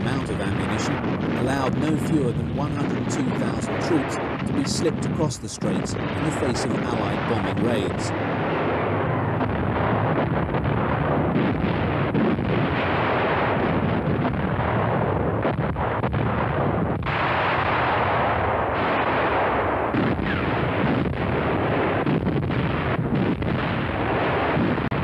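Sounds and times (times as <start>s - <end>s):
anti-aircraft guns firing: 0.0s - 25.0s.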